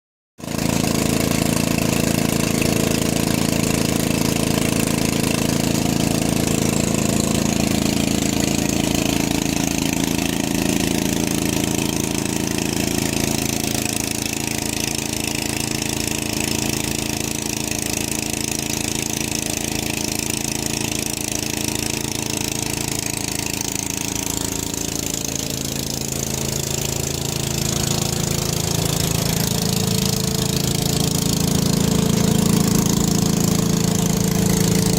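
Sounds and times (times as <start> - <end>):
engine with low firing beat: 0.4 - 34.9.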